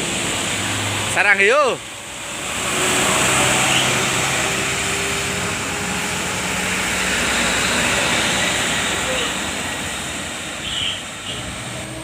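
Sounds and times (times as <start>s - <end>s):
tyre and road noise: 0.0s - 12.0s
vehicle engines humming: 0.0s - 12.0s.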